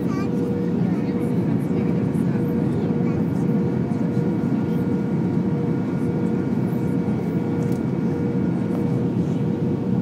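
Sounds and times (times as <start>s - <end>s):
airplane cabin airflow and engine: 0.0s - 10.0s
constant hum: 0.0s - 10.0s.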